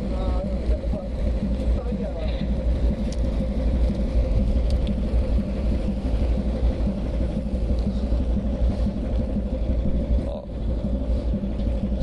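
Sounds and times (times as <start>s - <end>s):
ship engine rumbling: 0.0s - 12.0s.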